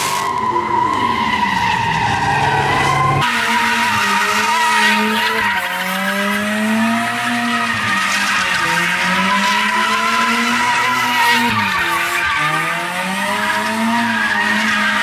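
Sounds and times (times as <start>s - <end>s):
car engine revving: 1.8s - 15.0s.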